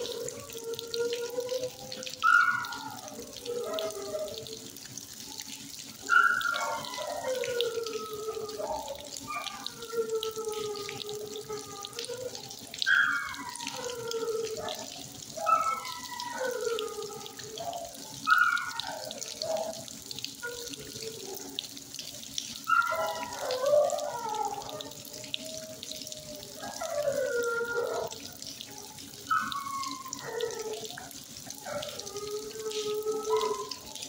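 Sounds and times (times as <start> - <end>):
dogs howling and whining: 0.0 - 34.0
running water hiss: 0.0 - 34.0.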